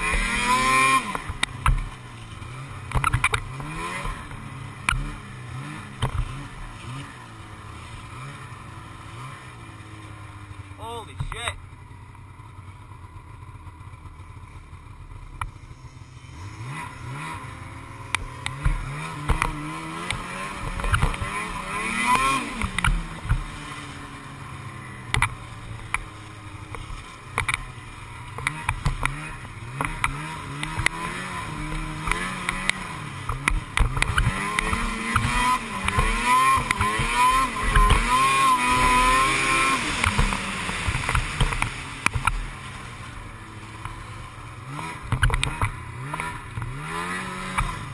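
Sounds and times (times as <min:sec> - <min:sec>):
snowmobile engine revving: 0:00.0 - 0:11.8, 0:13.6 - 0:47.9.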